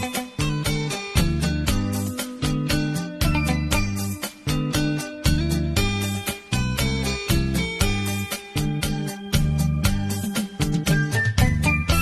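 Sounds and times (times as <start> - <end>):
electronic organ music with drums: 0.0 - 12.0.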